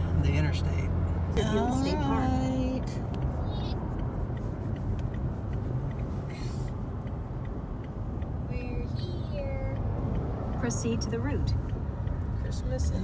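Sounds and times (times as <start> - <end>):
road and engine noise in cab: 0.0 - 13.0.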